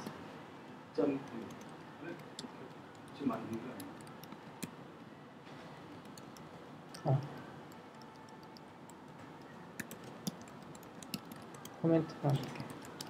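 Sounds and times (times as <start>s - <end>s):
keystrokes on computer keyboard: 1.1s - 4.8s, 5.9s - 13.0s.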